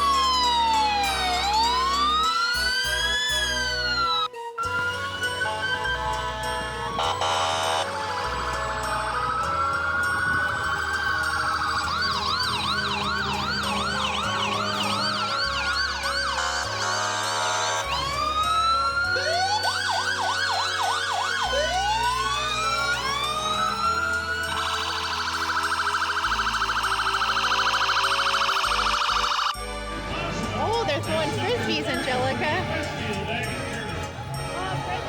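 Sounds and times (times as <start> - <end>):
emergency vehicle sirens: 0.0 - 35.0
music playing: 0.0 - 35.0.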